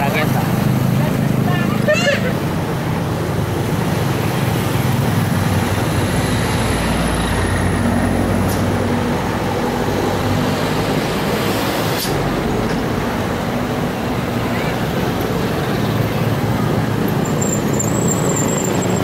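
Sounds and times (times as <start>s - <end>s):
heavy vehicles passing: 0.0s - 19.0s
passing motorcycles: 0.0s - 19.0s.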